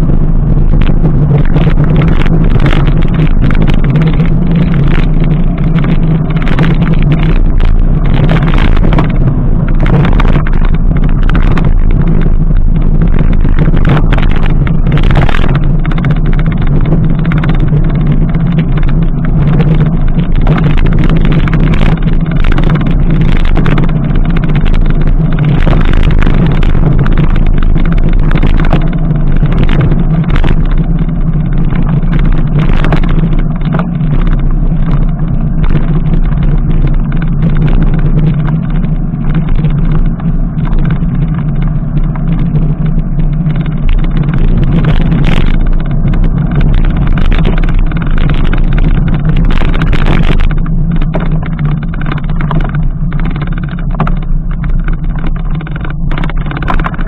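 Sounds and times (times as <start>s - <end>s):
bike clicking and rattling: 0.0s - 57.0s
wind rushing on microphone: 0.0s - 57.0s.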